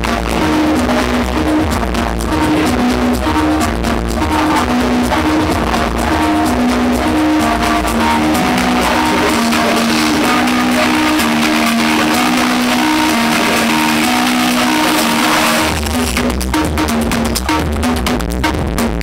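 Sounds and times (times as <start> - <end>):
electro dance music: 0.0 - 19.0.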